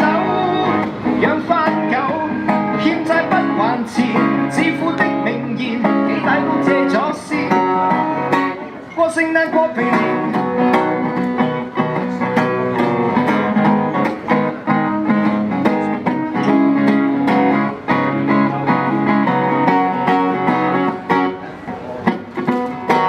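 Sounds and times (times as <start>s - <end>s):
guitar strumming chords: 0.0s - 23.0s.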